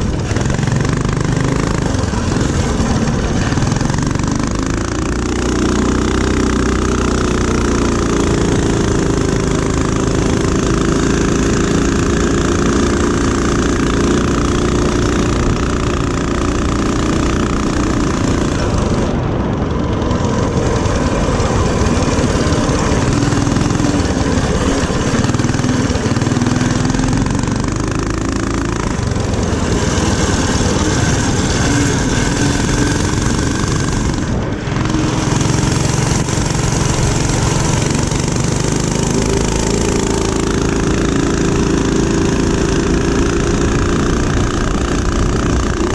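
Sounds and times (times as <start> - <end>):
mini-bike engine revving: 0.0 - 45.9.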